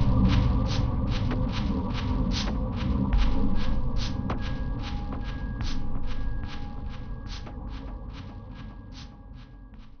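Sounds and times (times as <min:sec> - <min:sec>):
soundtrack music drone: 0:00.0 - 0:10.0.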